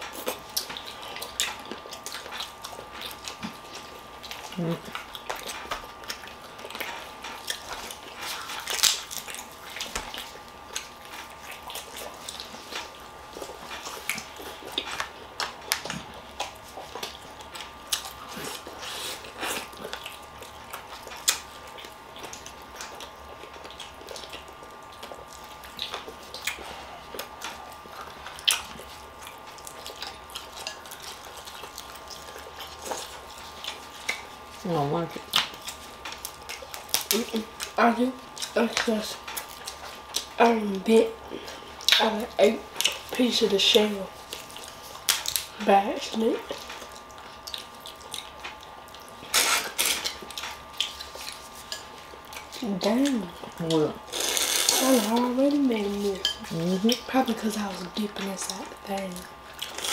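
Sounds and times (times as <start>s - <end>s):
chewing: 0.0s - 40.4s, 41.0s - 59.9s.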